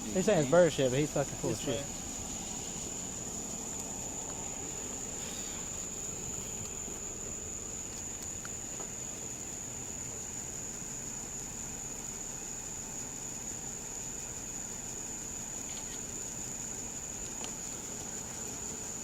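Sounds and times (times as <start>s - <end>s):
high-pitched insect trill: 0.0s - 19.0s
low background rumble: 0.0s - 19.0s.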